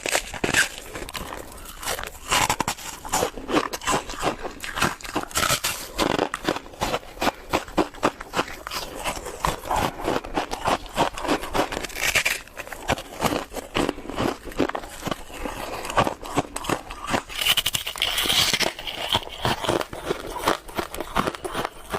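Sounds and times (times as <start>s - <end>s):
ice crunching while chewed: 0.0s - 21.9s.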